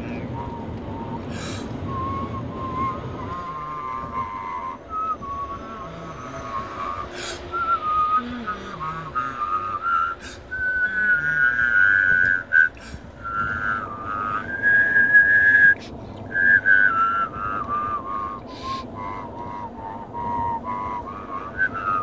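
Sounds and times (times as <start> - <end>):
person whistling a tune: 0.3 - 19.5, 20.2 - 22.0.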